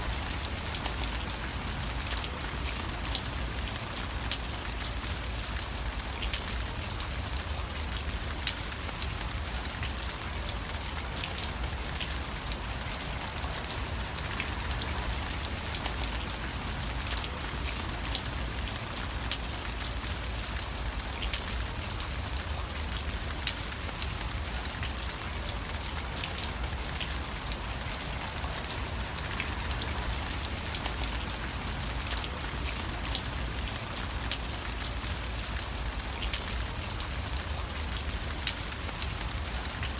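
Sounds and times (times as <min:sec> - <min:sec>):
raindrops ticking: 0:00.0 - 0:39.9
steady rain: 0:00.0 - 0:39.9.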